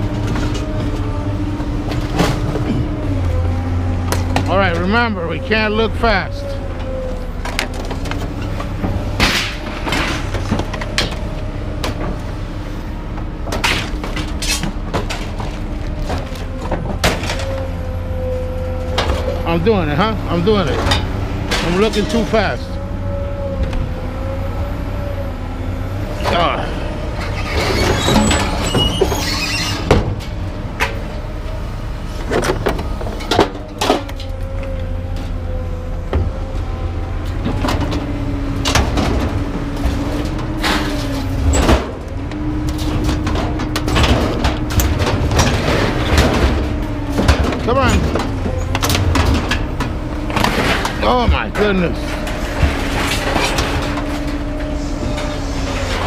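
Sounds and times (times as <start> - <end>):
clunks and rattles: 0.0 - 56.0
vehicle engine rumbling: 0.0 - 56.0.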